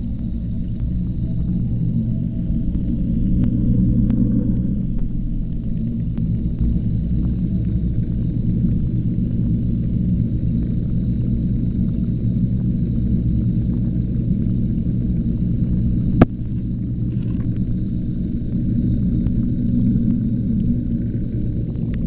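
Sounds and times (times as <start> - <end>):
underwater low rumble: 0.0 - 22.0.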